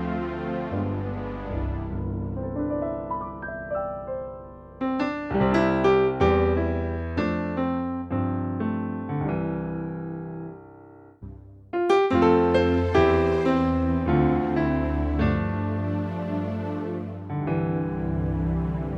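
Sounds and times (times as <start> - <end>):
synthesizer piano chords: 0.0 - 18.9.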